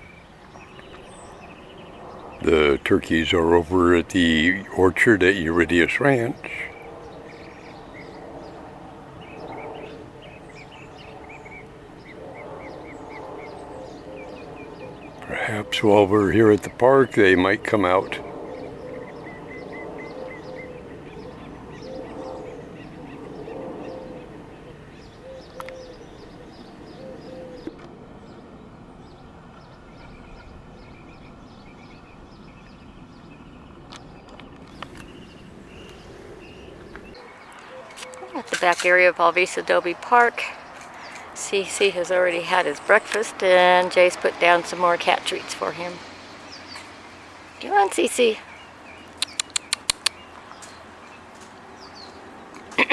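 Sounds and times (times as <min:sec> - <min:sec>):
bird chirping: 0:00.0 - 0:27.7, 0:34.8 - 0:39.0, 0:40.5 - 0:51.2.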